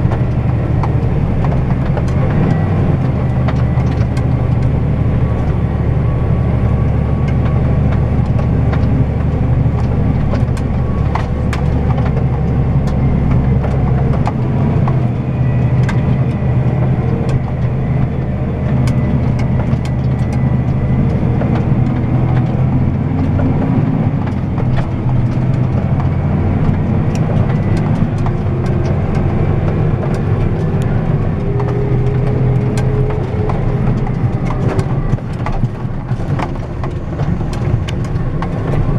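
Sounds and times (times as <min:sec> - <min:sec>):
cab rattles and clicks: 0:00.0 - 0:38.9
deep low rumble: 0:00.0 - 0:38.9
tractor engine hum: 0:00.0 - 0:38.9.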